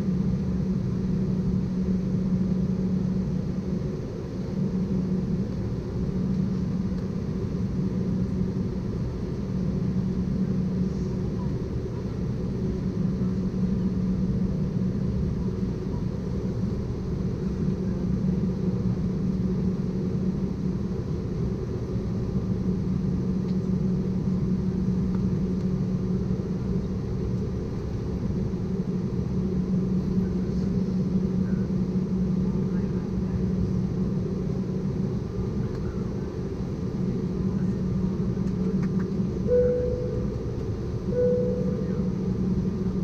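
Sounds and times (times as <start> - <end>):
aircraft cabin drone: 0.0 - 43.0.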